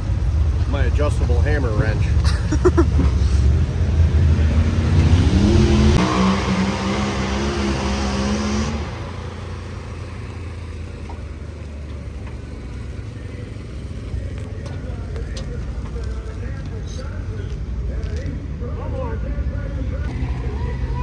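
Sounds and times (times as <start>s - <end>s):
engine revving: 0.0s - 18.2s, 19.7s - 21.0s.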